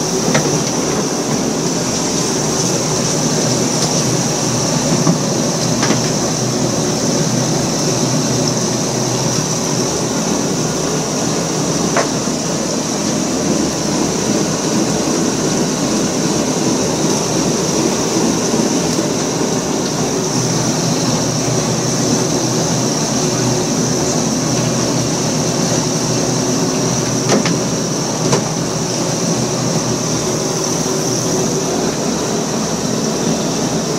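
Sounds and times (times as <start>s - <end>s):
boat engine and deck machinery: 0.0s - 33.9s.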